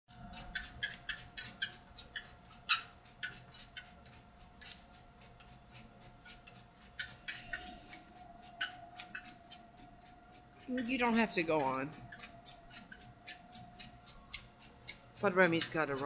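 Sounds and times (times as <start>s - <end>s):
treadmill motor whining: 0.1s - 16.0s
dog claws clicking on belt: 0.2s - 16.0s.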